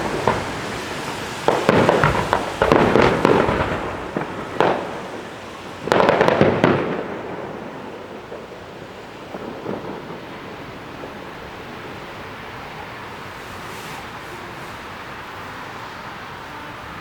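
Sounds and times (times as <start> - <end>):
fireworks bangs: 0.0 - 17.0
fireworks rumble: 0.0 - 17.0.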